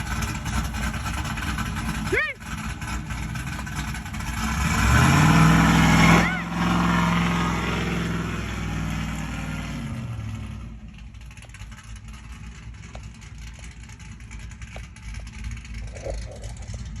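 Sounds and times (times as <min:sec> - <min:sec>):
car engine revs and idle: 0:00.0 - 0:17.0.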